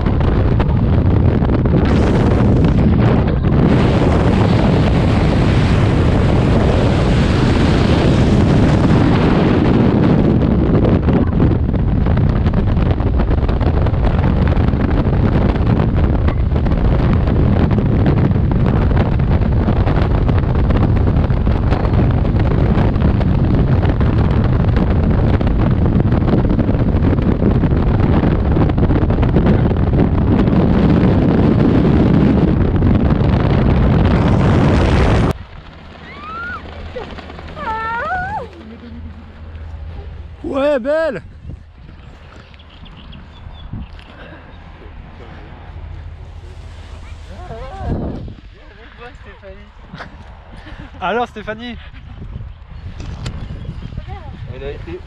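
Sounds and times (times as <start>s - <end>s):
freefall wind on microphone: 0.0s - 55.0s.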